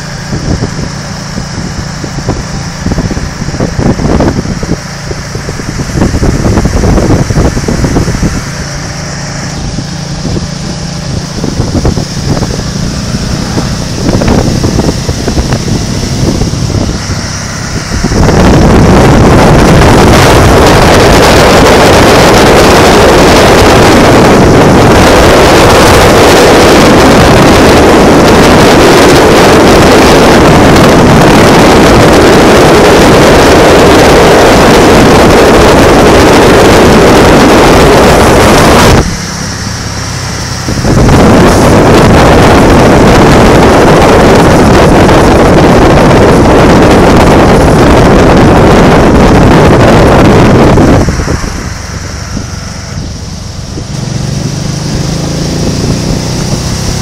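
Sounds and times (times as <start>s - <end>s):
motorcycle engine: 0.0s - 57.0s
road noise: 0.0s - 57.0s
wind buffeting microphone: 0.0s - 57.0s.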